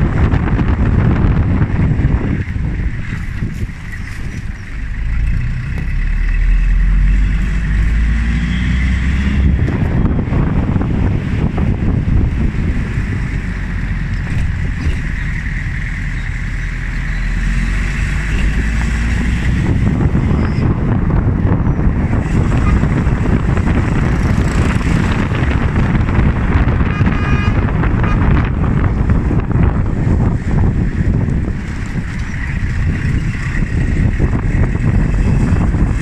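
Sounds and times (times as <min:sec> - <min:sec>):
vehicle engine and road rumble: 0:00.0 - 0:36.0
wind buffeting microphone: 0:00.0 - 0:36.0.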